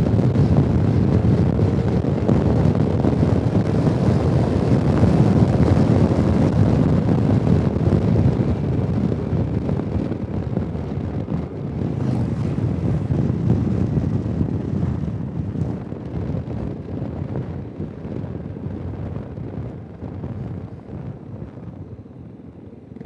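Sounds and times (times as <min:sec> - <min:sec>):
scooter road and engine noise: 0:00.0 - 0:23.0
wind rushing over microphone: 0:00.0 - 0:23.0.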